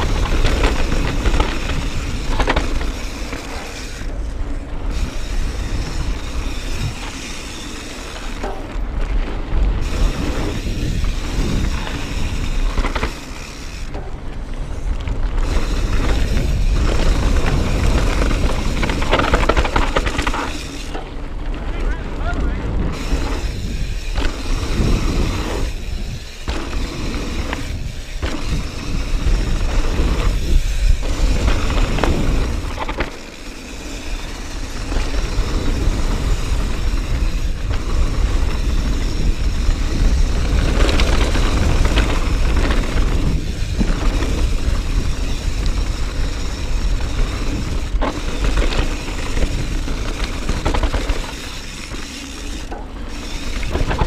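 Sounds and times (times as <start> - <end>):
bike knocks and rattles: 0.0 - 54.0
bike tyres crunching on gravel: 0.0 - 54.0
low wind rumble: 0.0 - 54.0.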